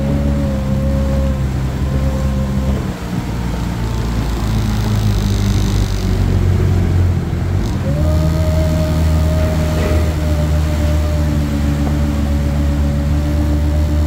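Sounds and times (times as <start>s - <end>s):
jet ski engine droning: 0.0s - 14.0s
thin engine whine: 0.0s - 14.0s.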